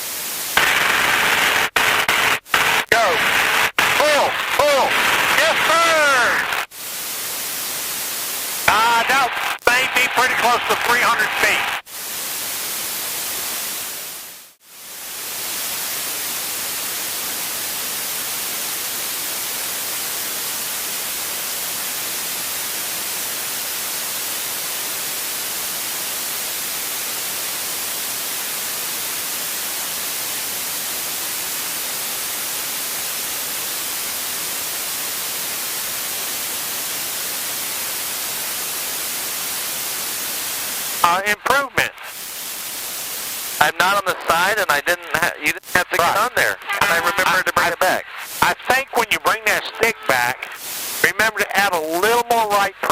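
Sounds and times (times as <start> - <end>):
static hiss: 0.0 - 52.9.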